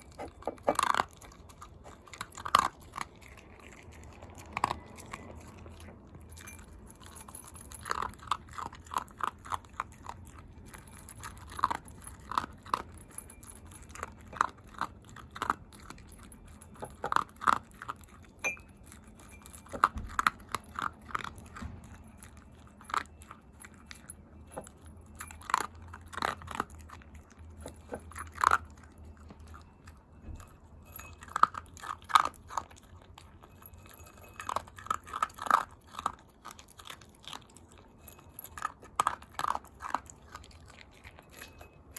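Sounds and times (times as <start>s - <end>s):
dog crunching dry kibble: 0.0s - 41.9s.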